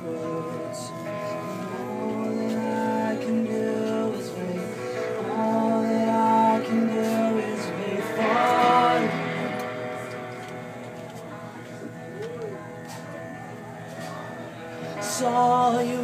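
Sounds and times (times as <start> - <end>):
person singing: 0.0 - 11.2, 13.9 - 16.0
indie pop band playing: 0.0 - 16.0.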